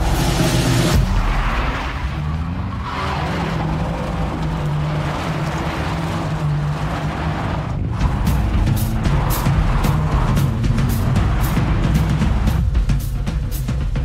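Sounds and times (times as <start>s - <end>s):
tyres skidding on loose surface: 0.0s - 12.7s
car engine at high revs: 0.0s - 13.1s.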